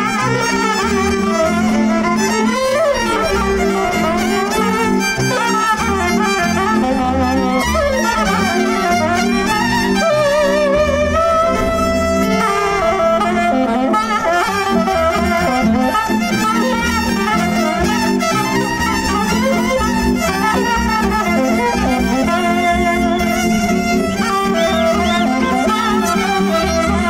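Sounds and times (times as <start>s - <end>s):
folk dance band: 0.0s - 27.0s
violin dance tune: 0.0s - 27.0s.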